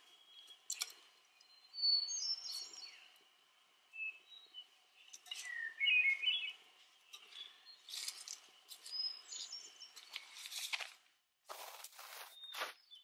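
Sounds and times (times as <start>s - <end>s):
birds singing: 0.0s - 10.8s, 12.0s - 13.0s.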